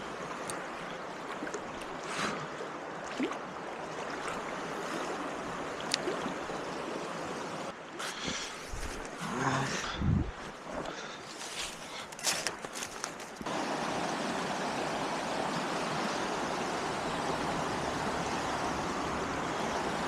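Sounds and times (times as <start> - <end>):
stream rushing over rocks: 0.0 - 9.8, 12.2 - 20.0.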